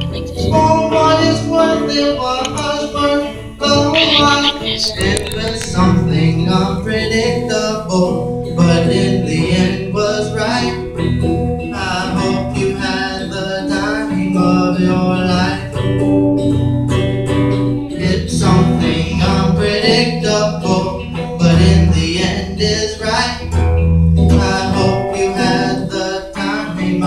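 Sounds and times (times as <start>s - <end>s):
strummed electric guitar: 0.0s - 27.0s
man singing: 0.3s - 11.0s, 11.6s - 15.9s, 17.9s - 23.6s, 24.2s - 27.0s.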